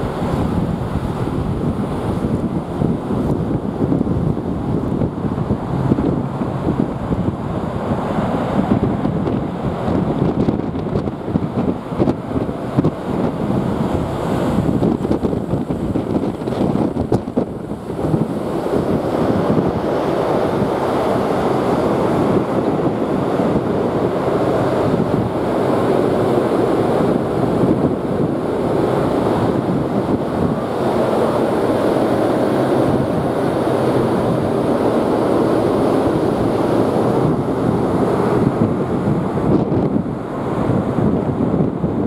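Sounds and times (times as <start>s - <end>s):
sea water washing: 0.0s - 42.0s
wind on microphone: 0.0s - 42.0s.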